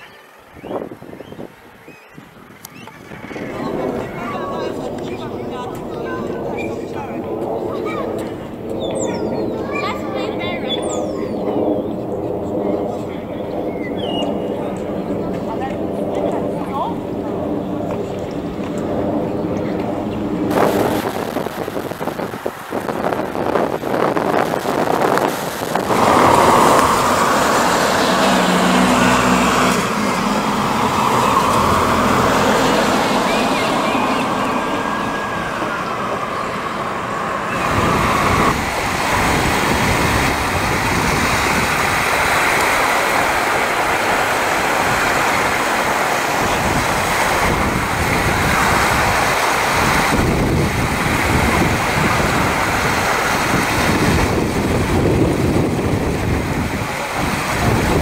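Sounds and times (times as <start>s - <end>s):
waves breaking: 0.0s - 58.0s
wind buffeting the microphone: 0.0s - 58.0s.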